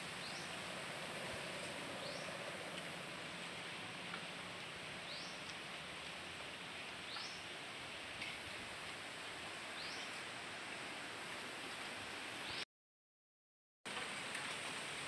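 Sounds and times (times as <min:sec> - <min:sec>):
river water flowing: 0:00.0 - 0:12.6, 0:13.9 - 0:15.0.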